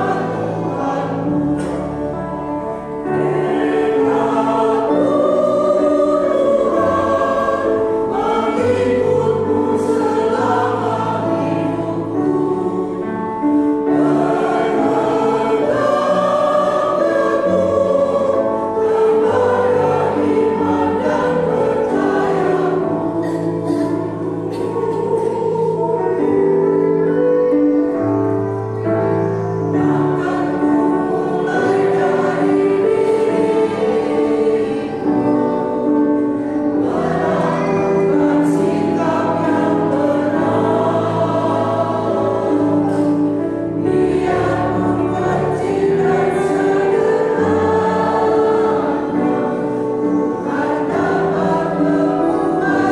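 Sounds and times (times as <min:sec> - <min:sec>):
mixed choir singing a hymn: 0:00.0 - 0:52.9.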